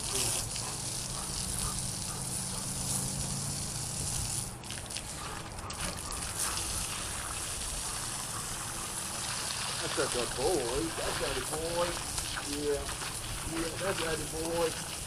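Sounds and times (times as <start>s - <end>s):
hose water spraying on concrete: 0.0s - 15.0s.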